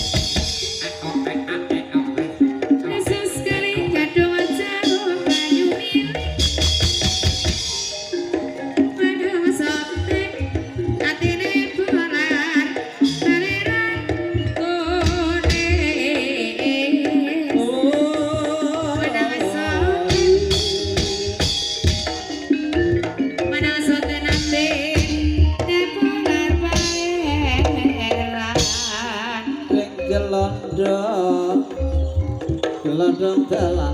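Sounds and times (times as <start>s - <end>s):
tuned percussion melody: 0.0s - 33.9s.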